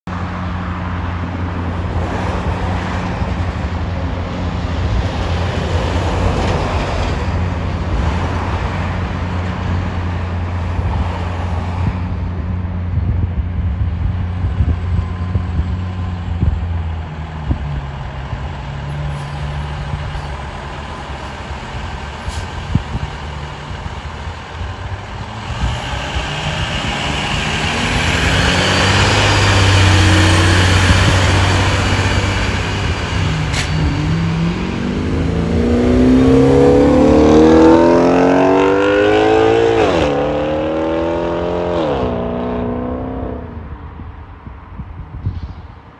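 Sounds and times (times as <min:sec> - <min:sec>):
fire engine diesel engine: 0:00.1 - 0:45.9.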